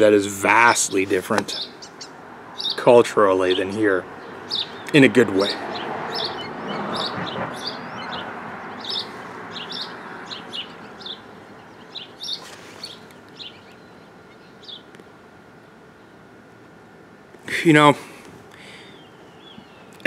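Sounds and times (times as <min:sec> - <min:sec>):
small birds chirping: 0:00.0 - 0:20.0
soft rushing background noise: 0:00.0 - 0:20.0.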